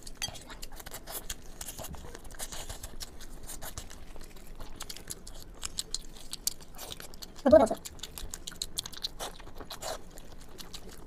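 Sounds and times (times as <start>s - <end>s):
bones crackling and clicking: 0.0s - 11.0s.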